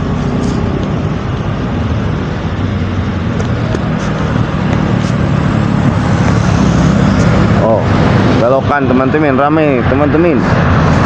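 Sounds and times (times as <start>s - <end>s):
motorcycle engines passing: 0.0s - 11.0s
road traffic hum: 0.0s - 11.0s.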